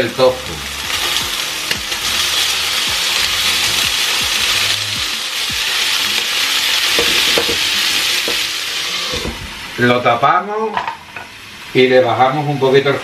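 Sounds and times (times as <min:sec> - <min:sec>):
chicken and tofu sizzling in oil: 0:00.0 - 0:13.0.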